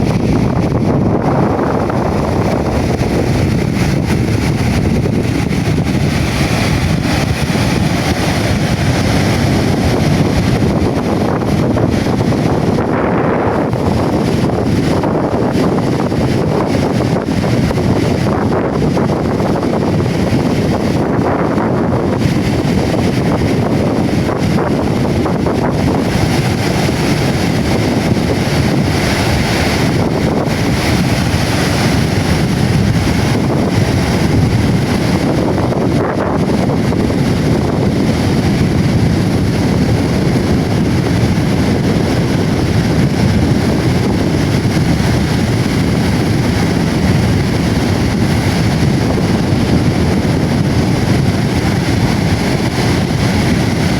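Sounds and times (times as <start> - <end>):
waves breaking on beach: 0.0 - 53.9
wind buffeting microphone: 0.0 - 53.9.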